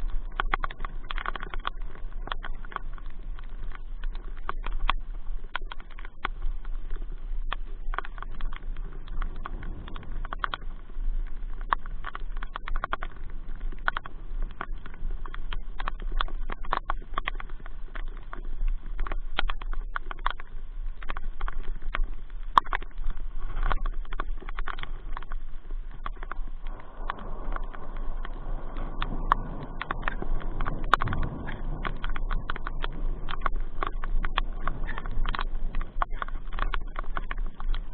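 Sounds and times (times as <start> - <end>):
raindrops tapping on hard surface: 0.0 - 37.9
steady low rumble: 0.0 - 37.9.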